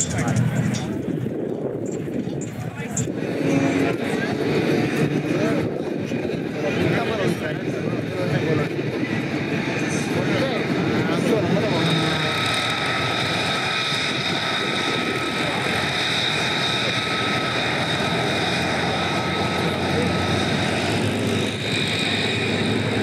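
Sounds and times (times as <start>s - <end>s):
propeller plane engine idling: 0.0s - 23.0s.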